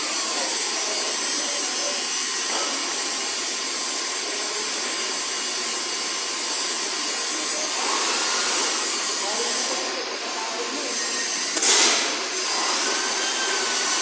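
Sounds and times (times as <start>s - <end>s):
workshop hall background noise: 0.0s - 14.0s.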